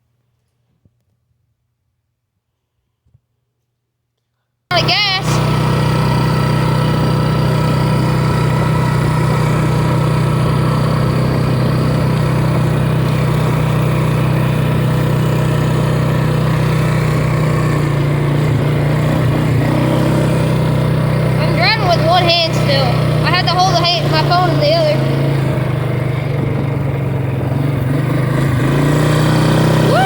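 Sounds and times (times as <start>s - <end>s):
small vehicle engine droning: 4.7s - 30.0s.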